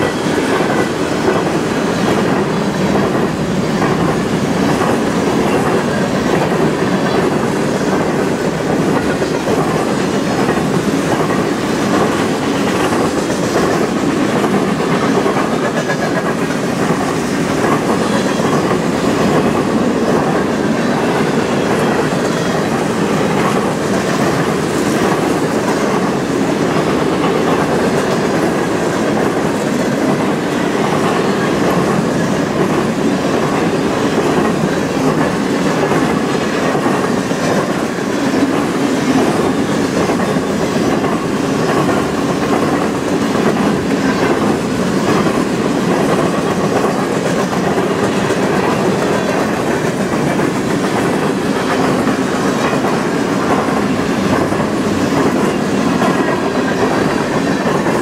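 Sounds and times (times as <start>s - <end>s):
train wheels rumbling on rail: 0.0s - 58.0s
wheel clickety-clack: 0.0s - 58.0s.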